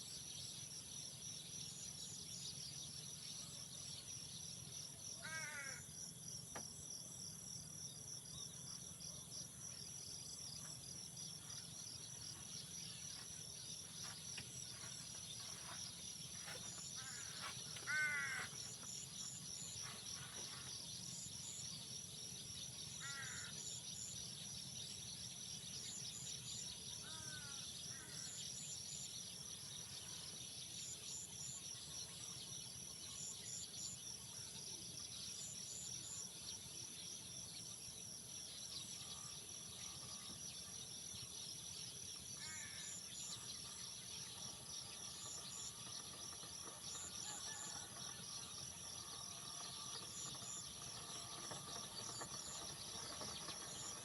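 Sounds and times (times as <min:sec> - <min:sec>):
insects chirring: 0:00.3 - 0:54.0.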